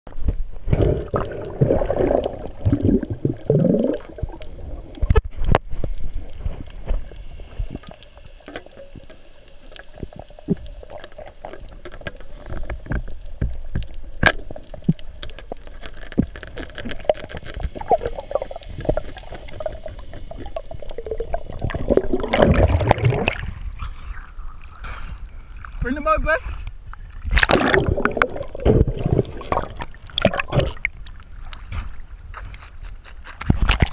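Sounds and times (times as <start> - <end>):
muffled underwater gurgling: 0.6 - 5.3, 6.2 - 26.6, 27.2 - 31.0.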